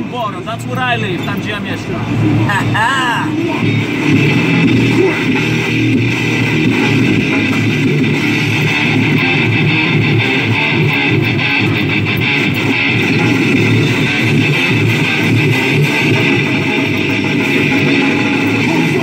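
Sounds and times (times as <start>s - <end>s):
rock music on radio: 0.0s - 19.0s.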